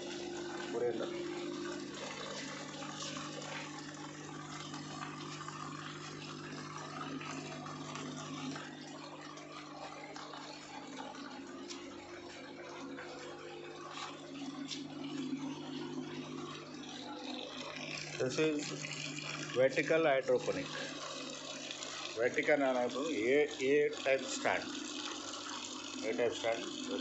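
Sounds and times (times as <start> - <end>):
water trickling through pipes: 0.0 - 27.0.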